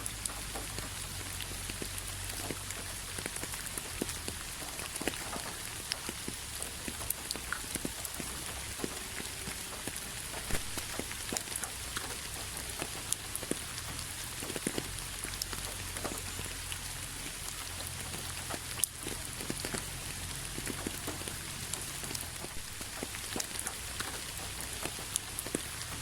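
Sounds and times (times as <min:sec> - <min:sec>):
raindrops ticking close by: 0:00.0 - 0:26.0
steady rain hiss: 0:00.0 - 0:26.0.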